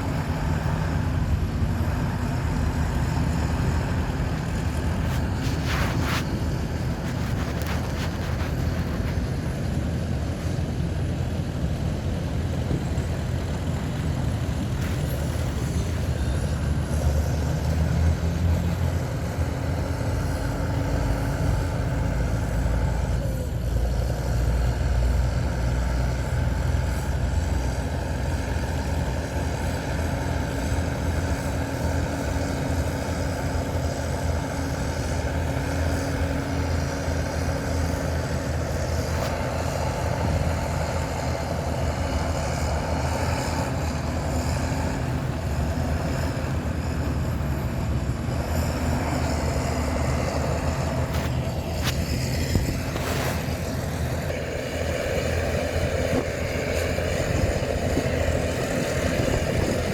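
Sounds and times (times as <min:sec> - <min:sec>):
heavy diesel engines rumbling: 0:00.0 - 0:59.9.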